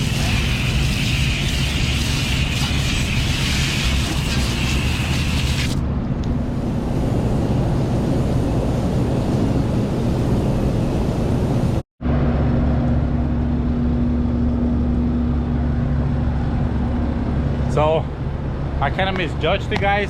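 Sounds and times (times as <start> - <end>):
machine rumbling with hum: 0.0 - 20.0.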